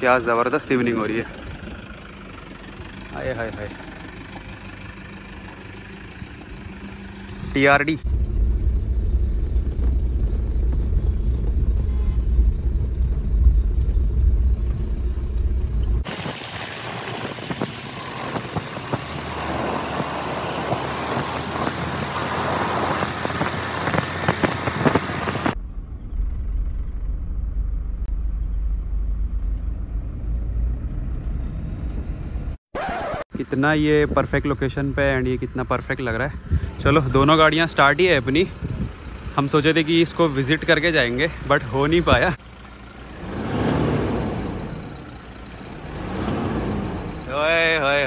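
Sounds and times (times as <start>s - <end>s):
diesel engine low rumble: 0.0s - 32.6s, 33.4s - 48.0s
car rushing on road: 0.0s - 33.2s, 36.6s - 48.0s.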